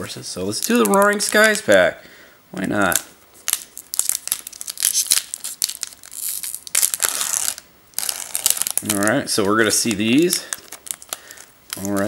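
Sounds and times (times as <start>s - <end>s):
foil wrapper crinkling and tearing: 0.4s - 1.8s, 2.8s - 12.0s.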